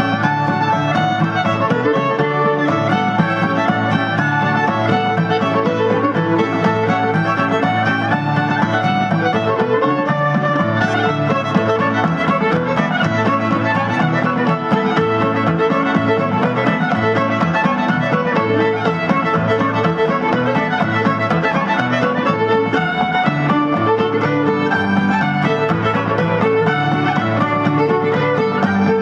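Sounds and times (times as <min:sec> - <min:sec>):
fiddle-led music: 0:00.0 - 0:29.0.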